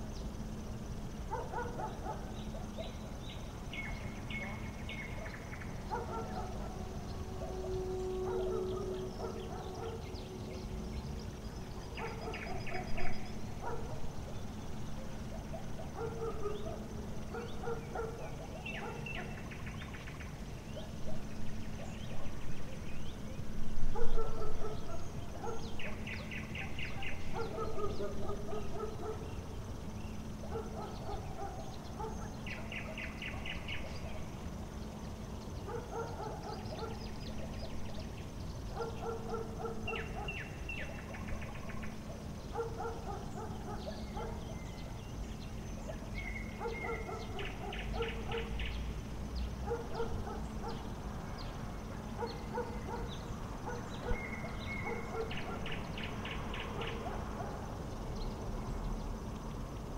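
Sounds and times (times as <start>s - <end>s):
bird singing with rattling trill: 0.0s - 59.9s
steady low hum: 0.0s - 59.9s.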